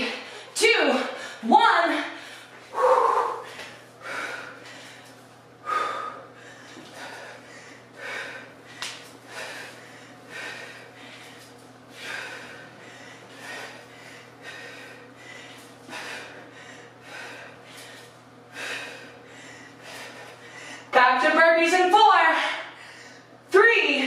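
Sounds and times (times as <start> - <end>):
woman breathing hard: 0.0 - 21.0, 22.3 - 23.4.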